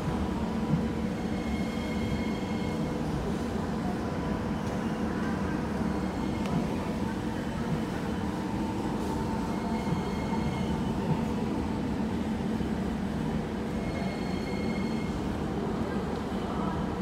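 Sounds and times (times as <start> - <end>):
train rumble and hum: 0.0 - 17.0.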